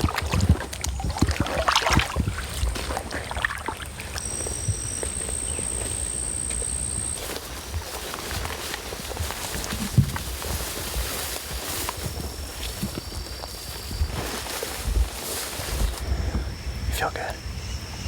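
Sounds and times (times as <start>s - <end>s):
rustling and crunching footsteps: 0.0s - 17.4s
outdoor noise: 0.0s - 18.0s.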